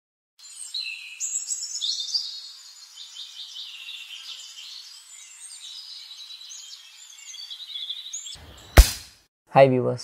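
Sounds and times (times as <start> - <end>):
birds chirping and singing: 0.4 - 8.8.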